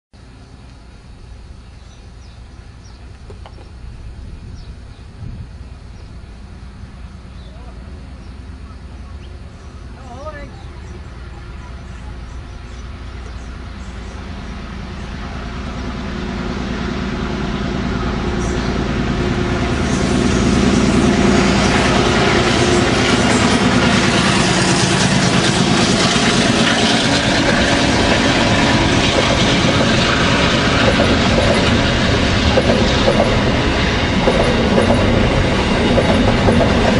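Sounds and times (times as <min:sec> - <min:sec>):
locomotive engine drone: 0:00.2 - 0:36.9
train wagons rattling on track: 0:02.0 - 0:36.9.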